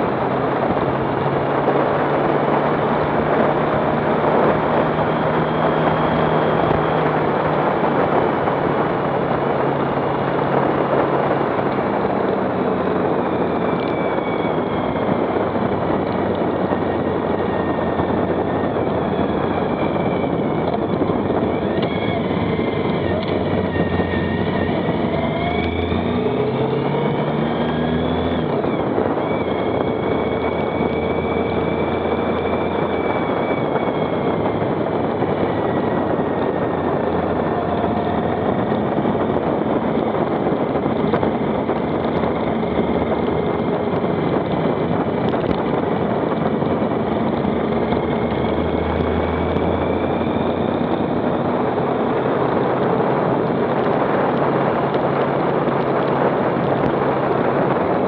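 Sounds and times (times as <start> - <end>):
motorcycle engine revving: 0.0 - 58.0
wind rushing: 0.0 - 58.0.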